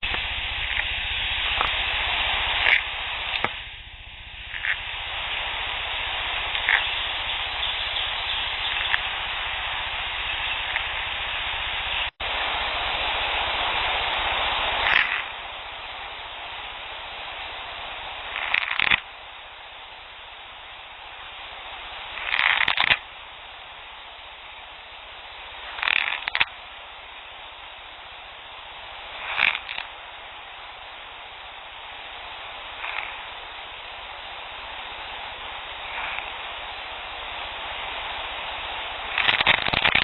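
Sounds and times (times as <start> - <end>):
recorder hiss: 0.0 - 40.0.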